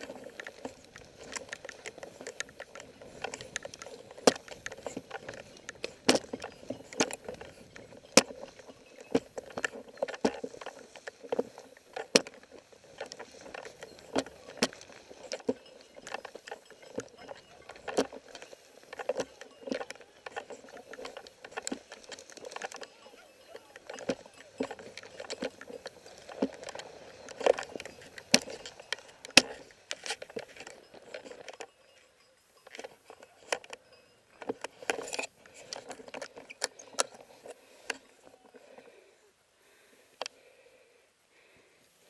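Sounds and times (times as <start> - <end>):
handling knocks and clicks: 0.0 - 39.0.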